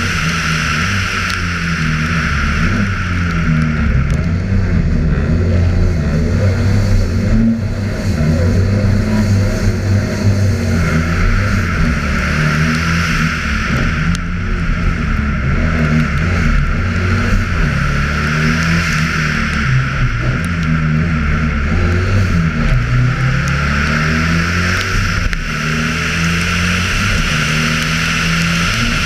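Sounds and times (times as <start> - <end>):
rally car engine accelerating: 0.0 - 29.0.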